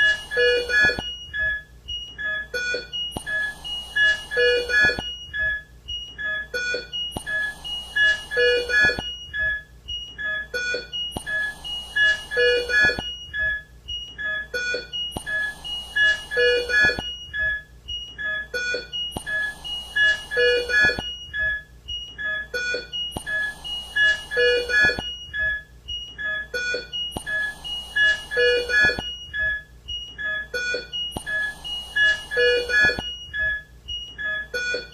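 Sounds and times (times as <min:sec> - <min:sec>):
electronic beeping: 0:00.0 - 0:34.9.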